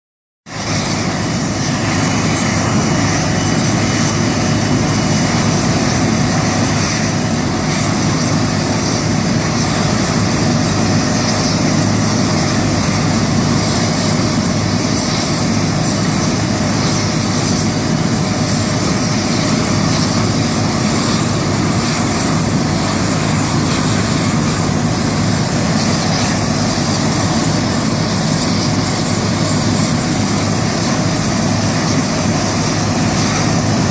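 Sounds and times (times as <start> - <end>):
tractor mechanical drone: 0.5 - 33.9.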